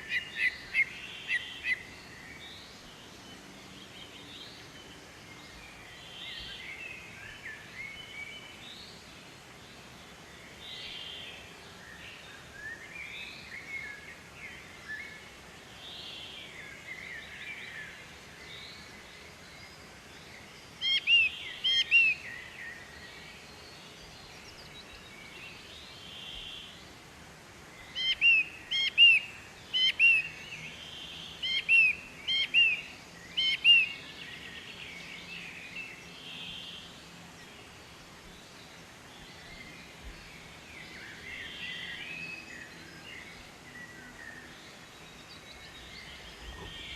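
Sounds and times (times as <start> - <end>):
distant bird calls: 0.0 - 8.1, 15.7 - 27.0, 27.7 - 46.9
bird chirping: 0.0 - 9.0, 15.8 - 26.8, 27.8 - 46.9
outdoor background noise: 0.0 - 46.9.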